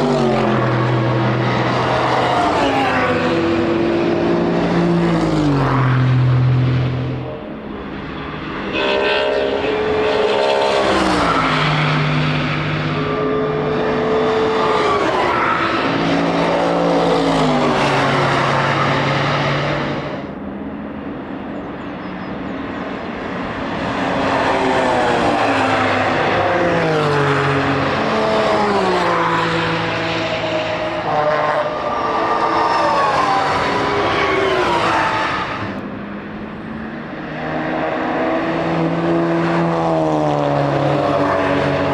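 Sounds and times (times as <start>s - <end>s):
race cars accelerating past: 0.0s - 20.4s, 22.5s - 41.9s.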